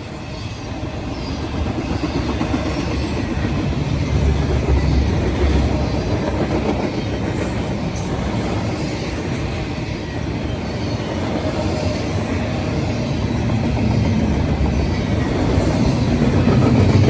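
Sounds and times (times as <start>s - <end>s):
low train rumble: 0.0s - 17.0s.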